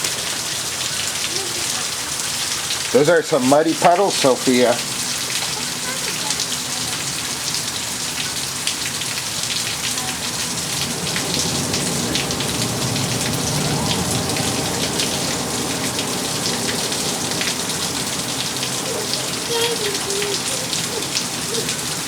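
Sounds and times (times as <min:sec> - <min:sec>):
rain on hard surfaces: 0:00.0 - 0:22.0
raindrops ticking: 0:00.0 - 0:22.0.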